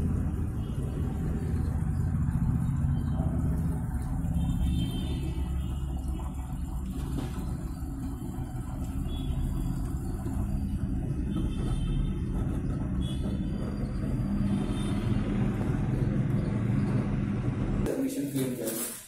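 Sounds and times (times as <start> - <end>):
washing machine drum humming: 0.0 - 17.9.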